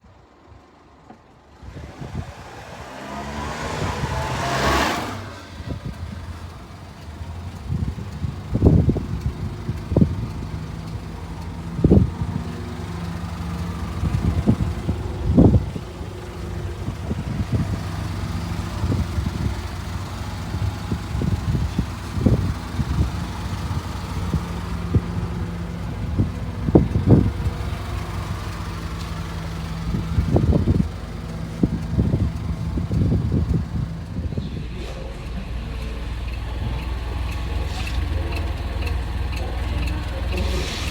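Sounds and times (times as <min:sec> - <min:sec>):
engine rising rush: 0:01.4 - 0:40.9
small truck engine idling: 0:05.0 - 0:40.9.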